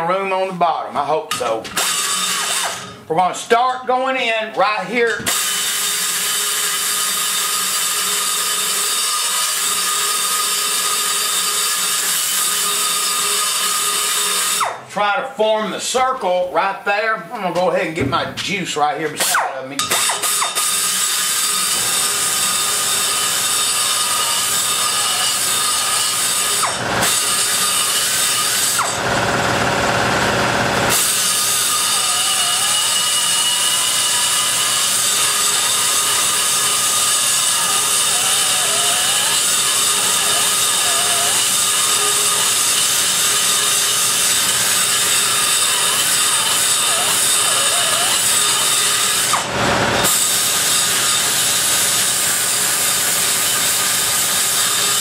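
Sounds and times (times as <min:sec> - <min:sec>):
die grinder whining on metal: 0:01.3 - 0:03.1, 0:05.0 - 0:14.8, 0:19.3 - 0:55.0.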